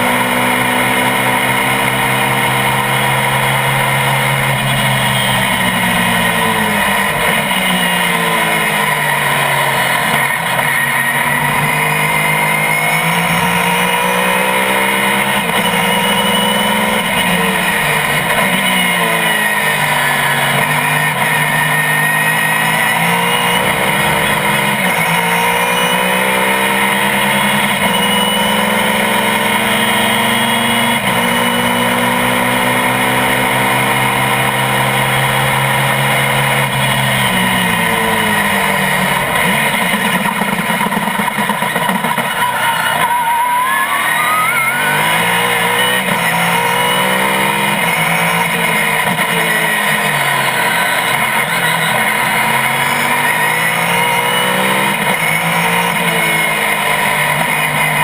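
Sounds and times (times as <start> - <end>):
racing car engine accelerating: 0.0 - 58.0.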